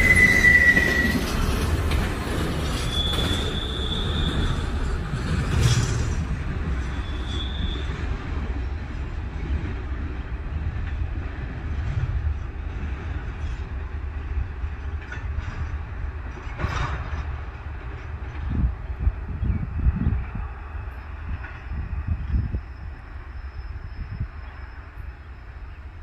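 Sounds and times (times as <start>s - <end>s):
freight train wheels clattering: 0.0s - 23.7s.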